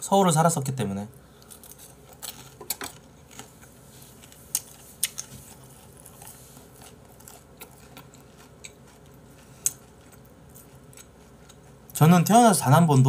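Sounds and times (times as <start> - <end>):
person chewing food: 1.4 - 12.0.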